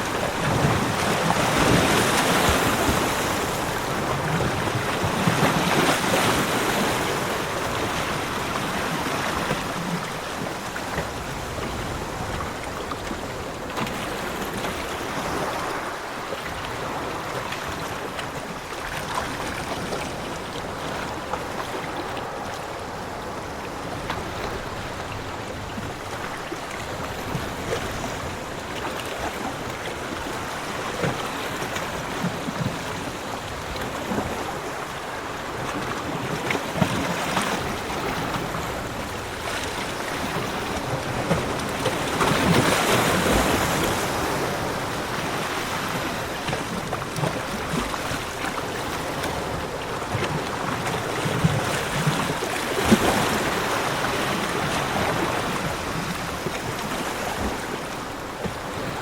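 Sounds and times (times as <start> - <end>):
ocean waves on a beach: 0.0 - 59.0.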